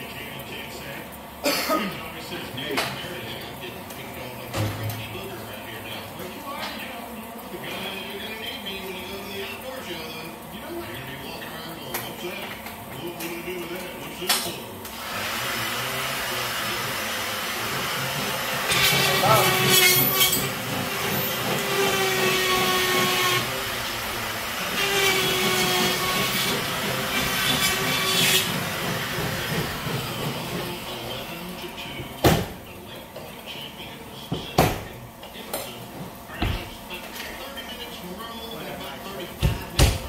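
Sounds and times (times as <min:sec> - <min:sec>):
steady hissing with whine: 0:00.0 - 0:39.5.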